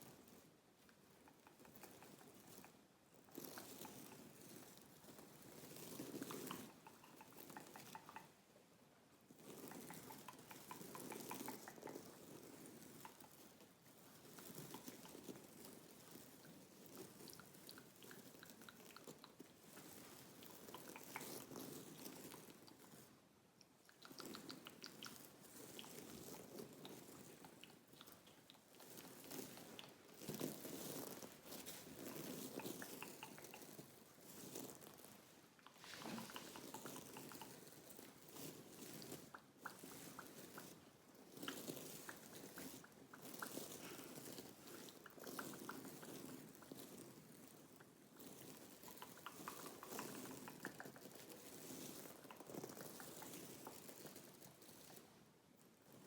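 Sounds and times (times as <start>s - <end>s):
soft rustling hiss: 0.0s - 56.0s
gum chewing with wet clicks: 0.9s - 8.5s, 9.4s - 55.1s.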